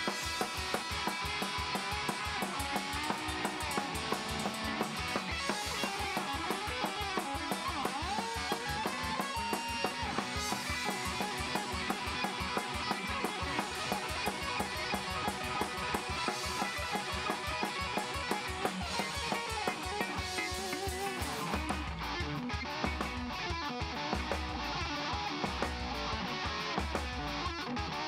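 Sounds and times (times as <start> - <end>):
live band playing: 0.0 - 28.0.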